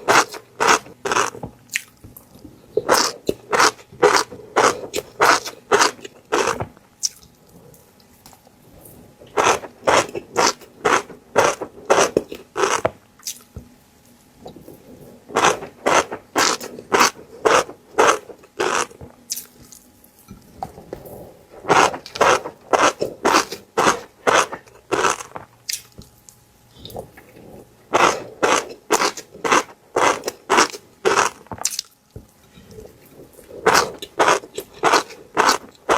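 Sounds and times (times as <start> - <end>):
crisp crunching chews: 0.0 - 8.4, 9.2 - 13.5, 14.4 - 35.9.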